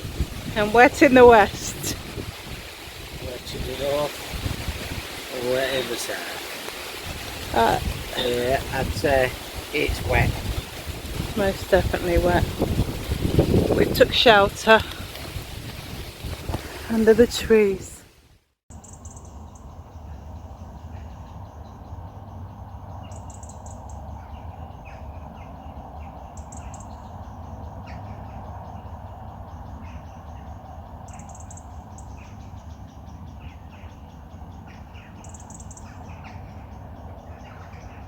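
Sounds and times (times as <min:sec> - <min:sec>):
birds calling and singing: 0:00.0 - 0:17.8, 0:18.7 - 0:38.0.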